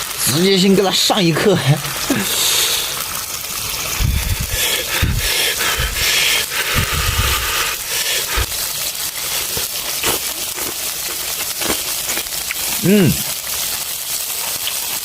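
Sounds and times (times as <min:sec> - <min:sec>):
noisy crunchy chewing: 0:01.4 - 0:15.0.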